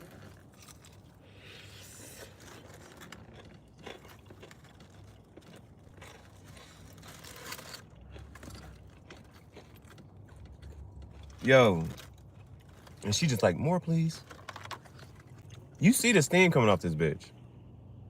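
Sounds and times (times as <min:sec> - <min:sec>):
fried chicken tearing and crackling: 0:00.0 - 0:15.7.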